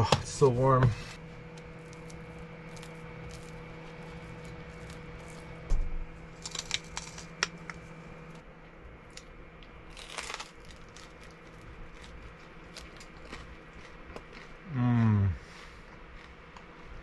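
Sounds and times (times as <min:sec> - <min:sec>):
bread crust crunching: 0:01.4 - 0:08.3, 0:09.0 - 0:14.6, 0:15.4 - 0:17.0.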